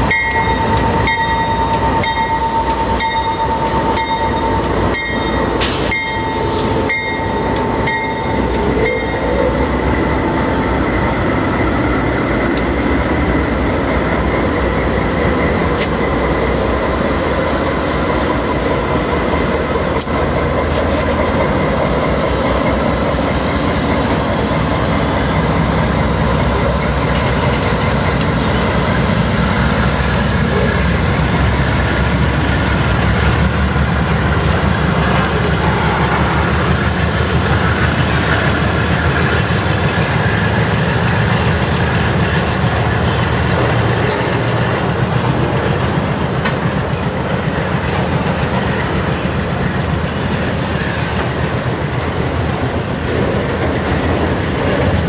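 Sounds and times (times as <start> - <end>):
diesel locomotive engines: 0.0 - 55.0
wheels rattling over rails: 0.0 - 55.0.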